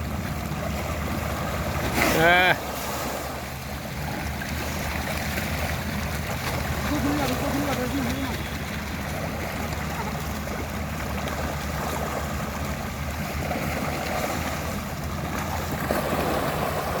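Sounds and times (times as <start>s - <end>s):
low motor hum: 0.0s - 17.0s
rushing water-like noise: 0.0s - 17.0s.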